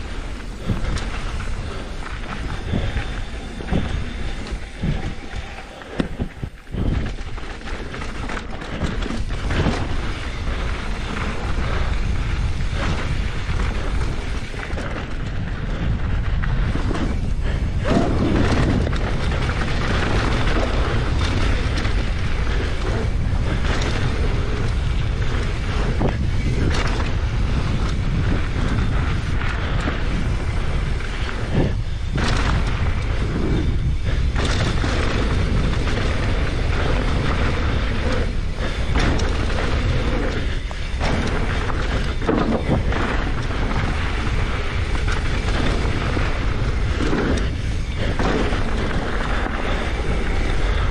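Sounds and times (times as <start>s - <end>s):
tyres rushing on trail: 0.0s - 50.9s
wind buffeting microphone: 0.0s - 50.9s.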